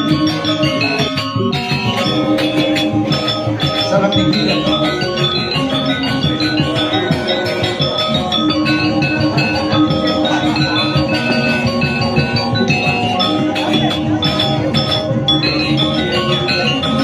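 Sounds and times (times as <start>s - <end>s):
drums: 0.0s - 17.0s
gamelan playing: 0.0s - 17.0s
gongs: 0.0s - 17.0s.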